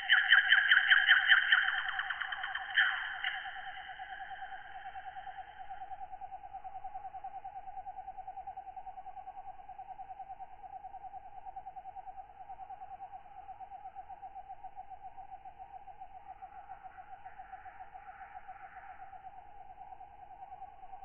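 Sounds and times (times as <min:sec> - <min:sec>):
night insect hiss: 0:00.0 - 0:21.0.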